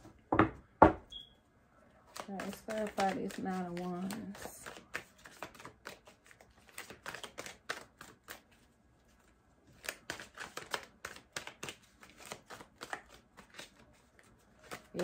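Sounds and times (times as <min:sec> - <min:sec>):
cards being shuffled: 0:02.1 - 0:15.0.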